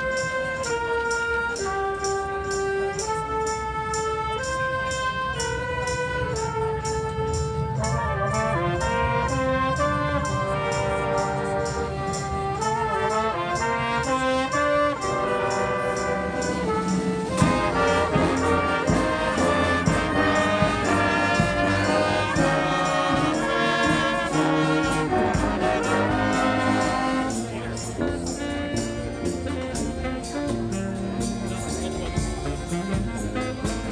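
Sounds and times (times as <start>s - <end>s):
brass band playing: 0.0s - 33.9s
percussion beat: 0.0s - 33.9s.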